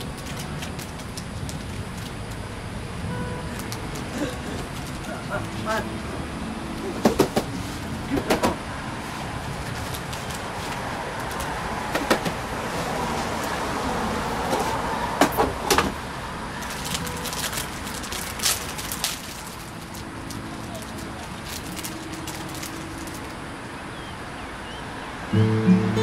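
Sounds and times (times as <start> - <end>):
background traffic noise: 0.0 - 26.0.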